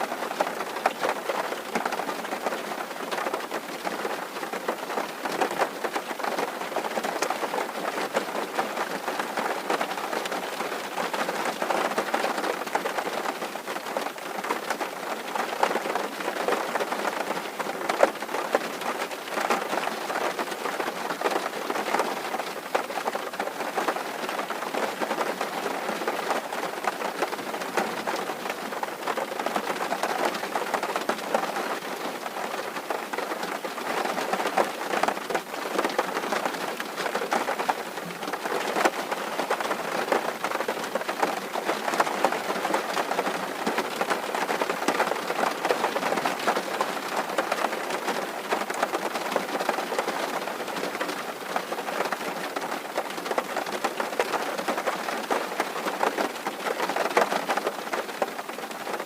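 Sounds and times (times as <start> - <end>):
rain drumming on tin roof: 0.0 - 59.0.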